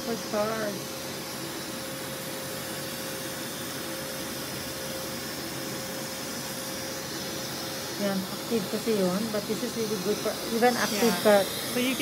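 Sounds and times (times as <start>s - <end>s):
steady machine hiss: 0.0s - 12.0s.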